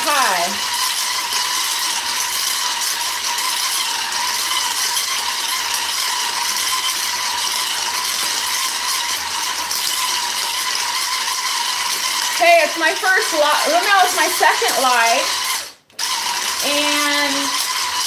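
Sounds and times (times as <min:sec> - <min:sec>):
immersion blender motor whine: 0:00.0 - 0:18.0.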